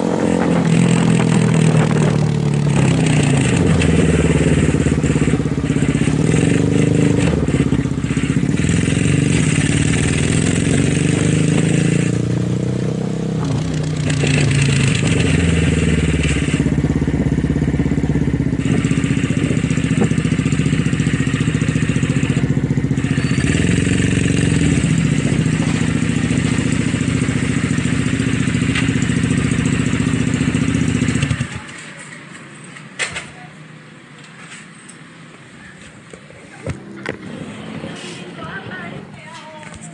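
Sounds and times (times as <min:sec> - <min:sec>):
motorcycle engine revving: 0:00.0 - 0:31.8, 0:36.6 - 0:39.2.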